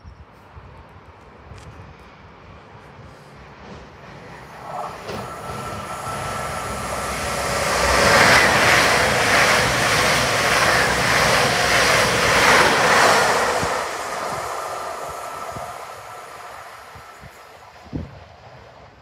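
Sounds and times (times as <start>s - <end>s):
diesel train passing at speed: 0.6s - 19.0s.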